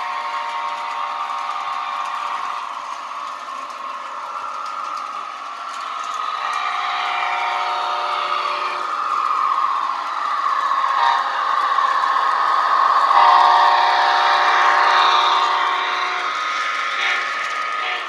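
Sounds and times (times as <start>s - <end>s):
model locomotive mechanical hum: 0.0s - 18.0s.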